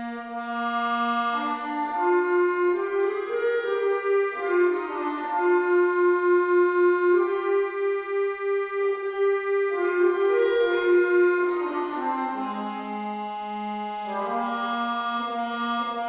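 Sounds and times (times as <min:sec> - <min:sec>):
slow instrumental melody: 0:00.0 - 0:16.0.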